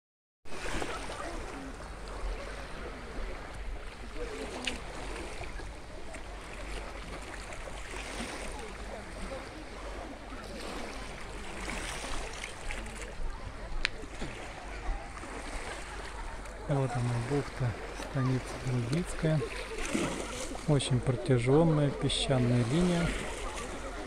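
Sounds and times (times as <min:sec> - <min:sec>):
small waves lapping: 0:00.5 - 0:24.0.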